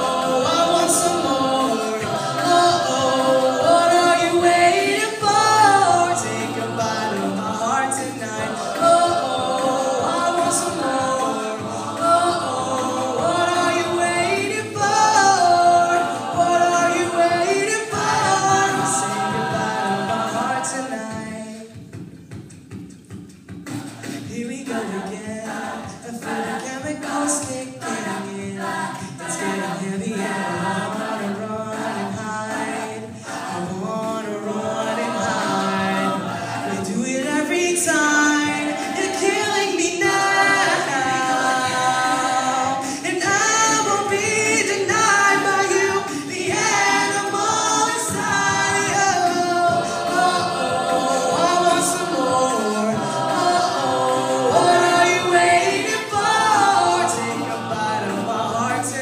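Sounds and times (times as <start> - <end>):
a cappella group singing harmony: 0.0 - 22.0, 23.6 - 59.0
vocal percussion hits: 0.0 - 59.0.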